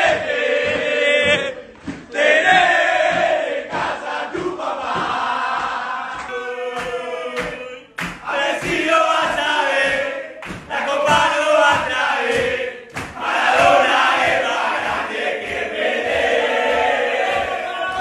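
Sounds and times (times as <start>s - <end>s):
group chanting and singing: 0.0s - 18.0s
steady beat of thumps: 0.0s - 18.0s.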